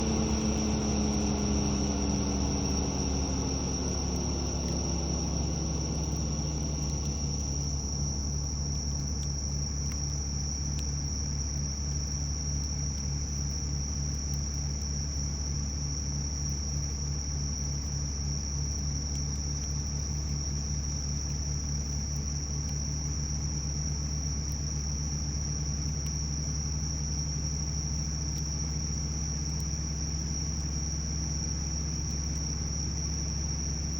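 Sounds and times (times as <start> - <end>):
crickets trilling: 0.0 - 33.9
low mechanical drone: 0.0 - 33.9.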